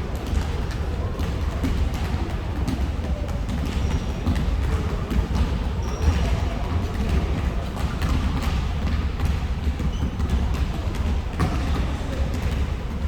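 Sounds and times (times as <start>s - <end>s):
basketball bouncing on gym floor: 0.0s - 13.0s
sneakers squeaking: 0.1s - 13.0s.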